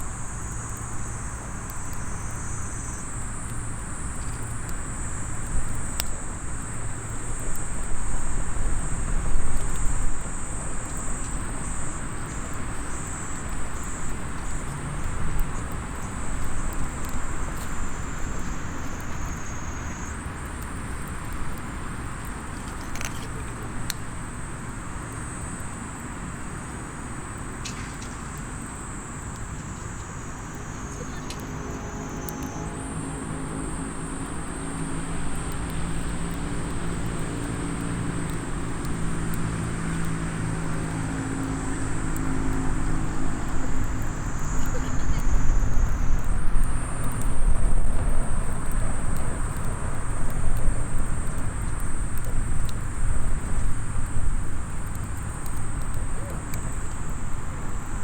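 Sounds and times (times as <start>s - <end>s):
campfire popping: 0.0s - 58.0s
distant traffic rumble: 0.0s - 58.0s
insect chorus: 0.0s - 58.0s.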